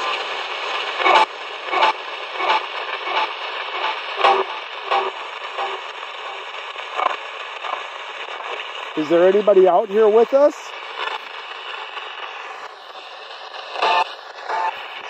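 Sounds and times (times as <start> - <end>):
choppy bursts of broadcast sound: 0.0 - 15.0
radio static hiss: 0.0 - 15.0.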